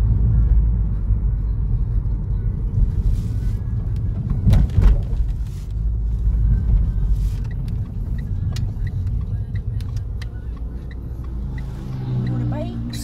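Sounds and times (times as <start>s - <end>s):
car rumbling on the move: 0.0s - 13.0s.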